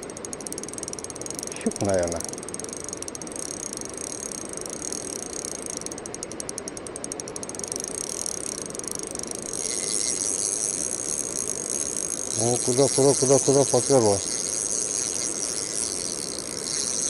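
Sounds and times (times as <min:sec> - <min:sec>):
fishing reel ratchet clicking: 0:00.0 - 0:17.0.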